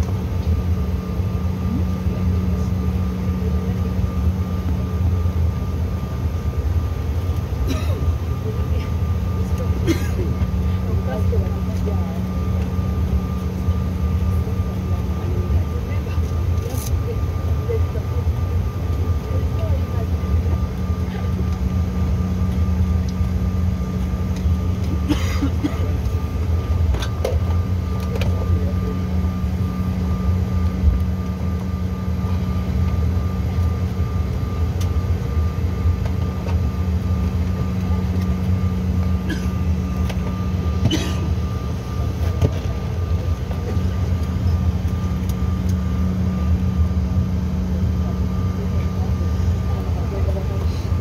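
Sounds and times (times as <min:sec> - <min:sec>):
engine whine: 0:00.0 - 0:51.0
jet engines low rumble: 0:00.0 - 0:51.0.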